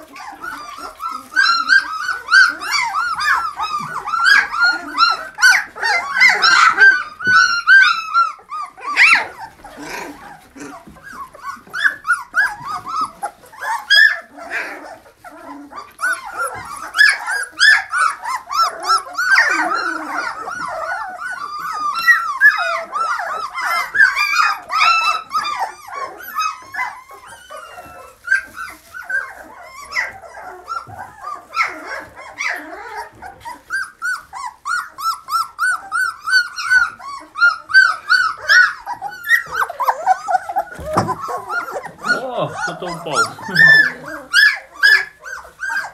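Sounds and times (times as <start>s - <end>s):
puppies whimpering and yelping: 0.0s - 45.9s.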